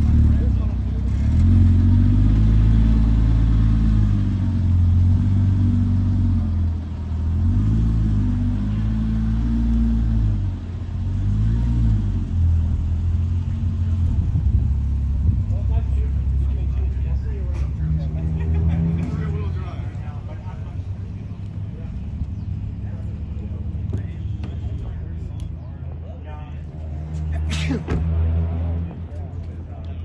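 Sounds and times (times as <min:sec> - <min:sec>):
car engine with deep exhaust rumble: 0:00.0 - 0:30.0.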